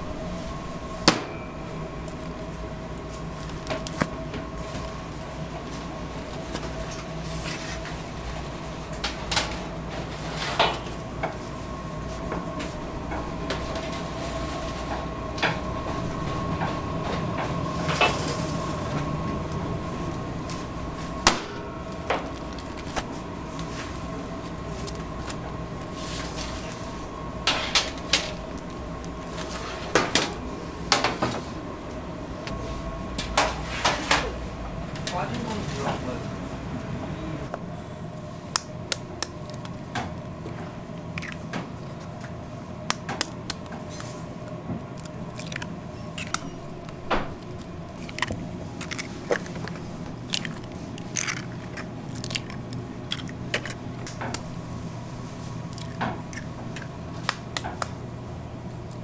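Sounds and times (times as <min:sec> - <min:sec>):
kitchen machinery hum: 0:00.0 - 0:59.0.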